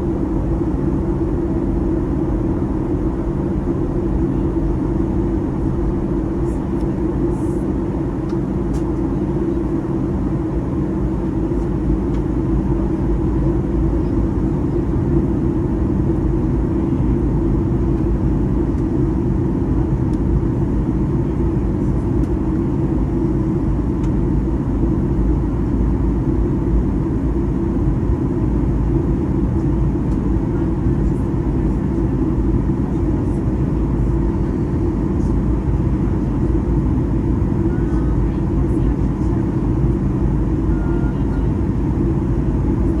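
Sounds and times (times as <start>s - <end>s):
airplane cabin drone: 0.0s - 43.0s.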